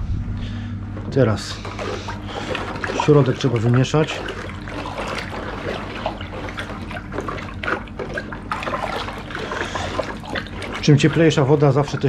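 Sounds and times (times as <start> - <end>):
water sloshing and trickling: 1.0 - 12.0
spoon stirring water in bucket: 1.5 - 12.0.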